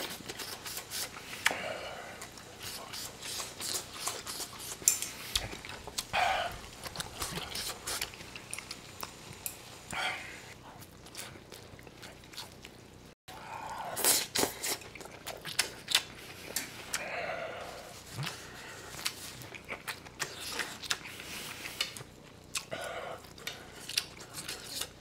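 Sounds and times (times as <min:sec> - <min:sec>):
wet chewing: 0:02.2 - 0:10.0, 0:10.8 - 0:12.8, 0:14.0 - 0:17.1, 0:18.0 - 0:25.0.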